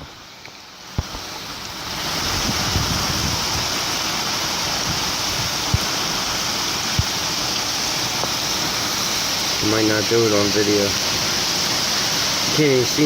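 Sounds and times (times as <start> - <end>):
rain: 0.0 - 13.0
wind: 0.0 - 13.0.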